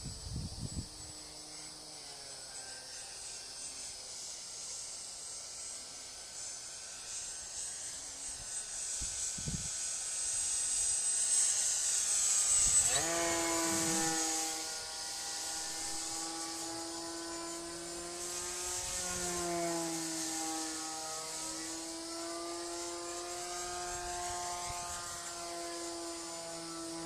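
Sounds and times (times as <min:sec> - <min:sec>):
model airplane engine buzzing: 0:00.0 - 0:27.0.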